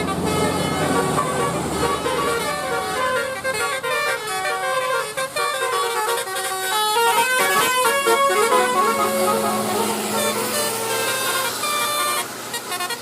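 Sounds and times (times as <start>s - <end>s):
musical air horn melody: 0.0s - 13.0s.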